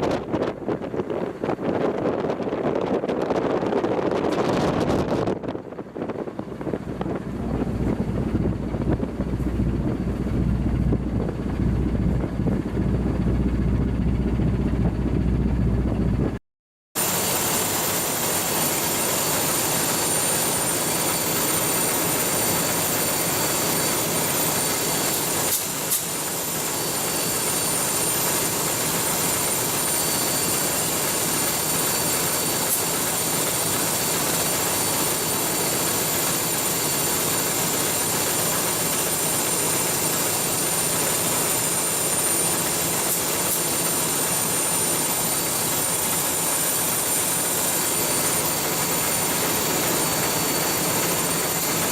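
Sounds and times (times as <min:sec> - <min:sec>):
loud ship machinery noise: 0:00.0 - 0:16.4, 0:17.0 - 0:51.9.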